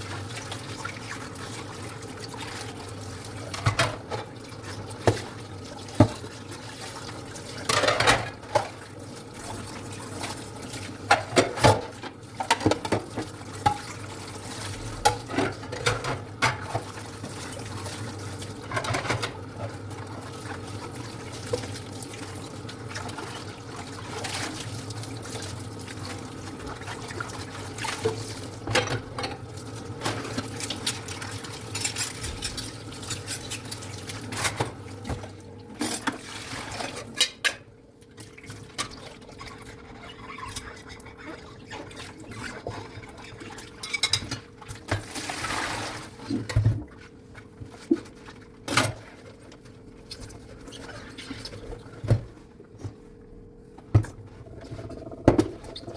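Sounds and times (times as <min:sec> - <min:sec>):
running water at sink: 0:00.0 - 0:53.1, 0:53.8 - 0:55.9.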